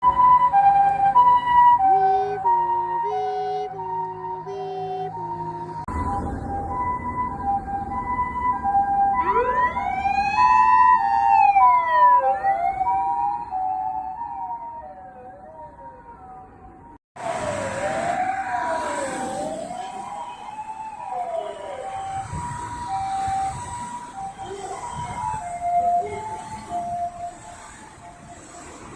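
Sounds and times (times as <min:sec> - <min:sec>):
traffic noise: 0:00.0 - 0:28.9
two-tone ambulance siren: 0:00.0 - 0:28.9
wailing siren: 0:00.0 - 0:28.9.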